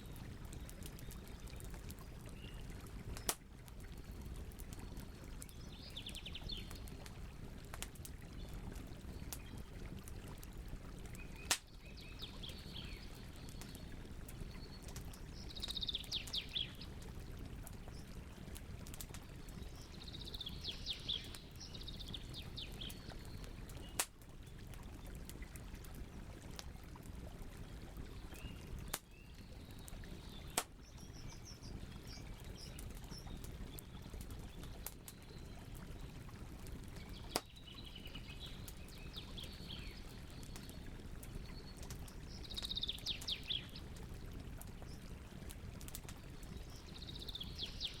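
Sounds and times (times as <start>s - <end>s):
campfire burning with pops: 0.0s - 47.9s.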